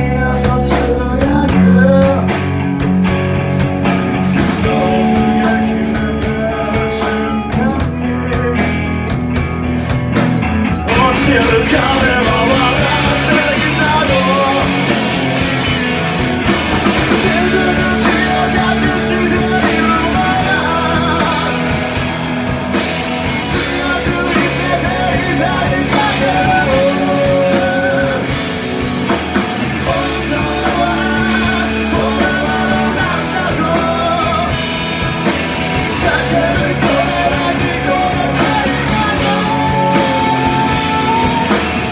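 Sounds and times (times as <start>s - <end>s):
person singing: 0.0s - 2.6s, 4.5s - 9.1s, 10.7s - 15.6s, 16.9s - 28.7s, 29.8s - 34.7s, 35.7s - 41.9s
live rock band playing: 0.0s - 41.9s.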